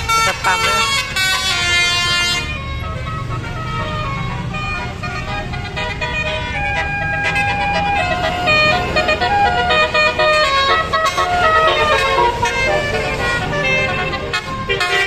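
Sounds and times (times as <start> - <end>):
bus engine rumble: 0.0 - 15.0
multi-note bus horn melody: 0.0 - 15.0.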